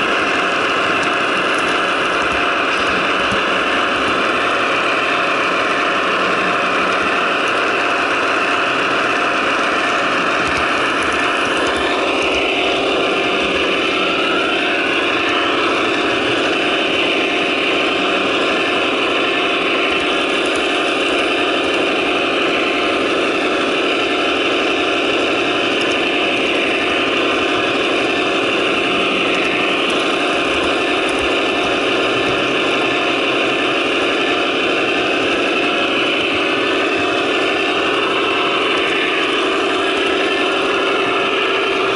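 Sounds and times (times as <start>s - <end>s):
model locomotive diesel engine sound: 0.0s - 41.9s.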